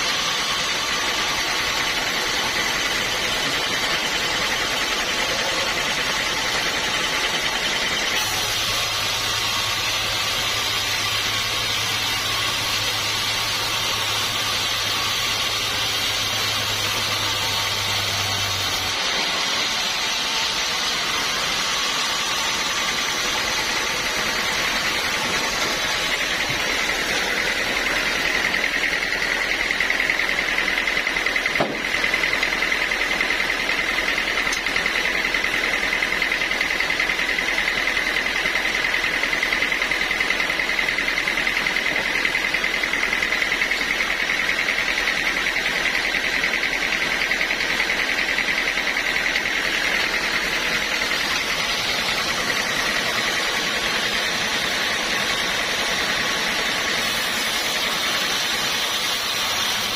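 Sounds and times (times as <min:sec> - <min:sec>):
high whine: 0:00.0 - 0:59.9
sawmill saw sawing wood: 0:00.0 - 0:59.9.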